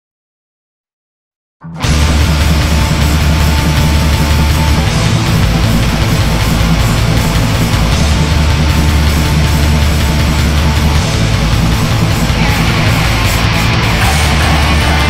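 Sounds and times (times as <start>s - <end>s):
heavily distorted electric guitars: 1.6s - 15.0s
low bass notes: 1.6s - 15.0s.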